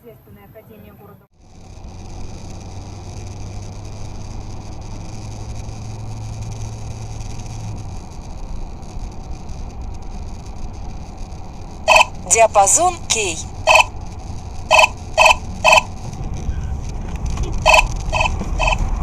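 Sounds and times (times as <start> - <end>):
vehicle engine and road rumble: 1.0 - 12.3, 13.4 - 19.0.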